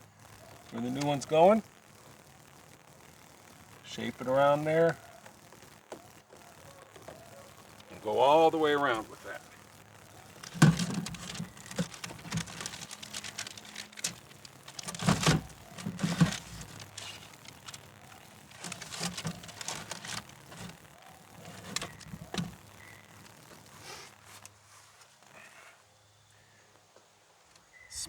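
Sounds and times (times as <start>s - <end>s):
tape rustling and crinkling: 0.0s - 25.5s.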